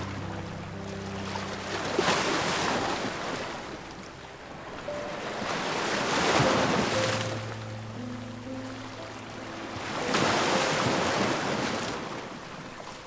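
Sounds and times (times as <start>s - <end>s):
ocean surf washing onto shore: 0.0s - 13.0s
soft background music: 0.0s - 13.0s.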